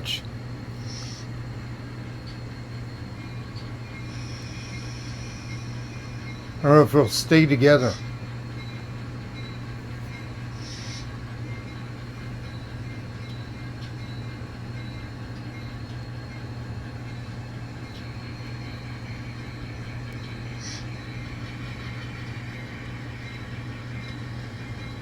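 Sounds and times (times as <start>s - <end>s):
model locomotive humming: 0.0s - 25.0s.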